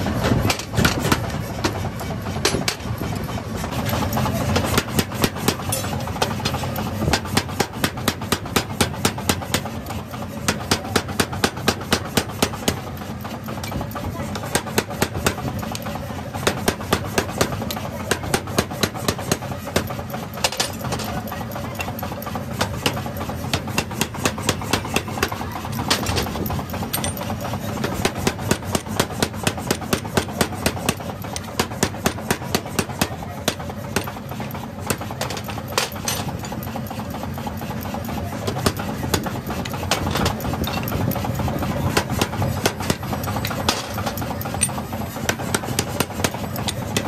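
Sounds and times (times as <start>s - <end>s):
power hammer striking hot steel: 0.1s - 47.0s.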